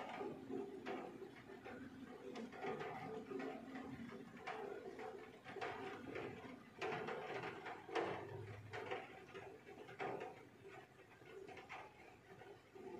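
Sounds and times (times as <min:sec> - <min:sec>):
rain through a closed window: 0:00.0 - 0:12.9
raindrops tapping: 0:00.0 - 0:12.9.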